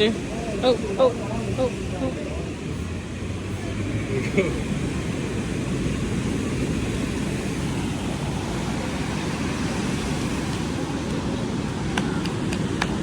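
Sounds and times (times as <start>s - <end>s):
low rumbling outdoor background: 0.0s - 13.0s.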